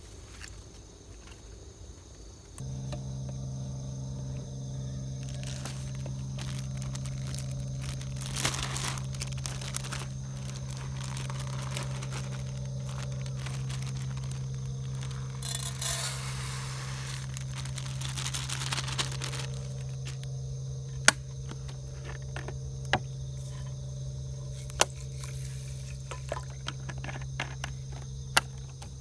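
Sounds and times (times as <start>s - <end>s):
low motor hum: 2.6s - 29.0s
plastic packaging crinkling: 2.8s - 29.0s.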